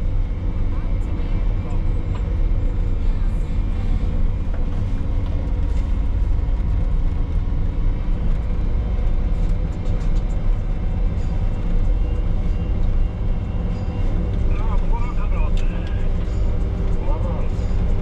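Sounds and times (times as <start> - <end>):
heavy machinery engine droning: 0.0 - 18.0.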